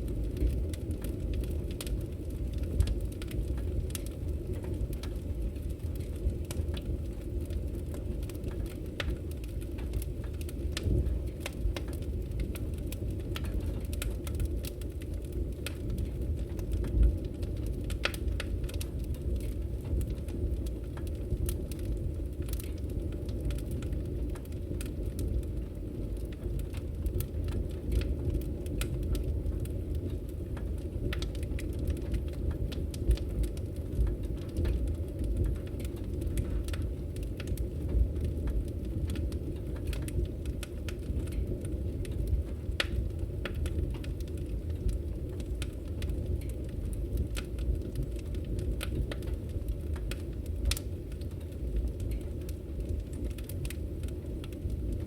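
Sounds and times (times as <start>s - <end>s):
fire rumbling: 0.0s - 55.0s
firewood crackling and popping: 0.0s - 55.0s.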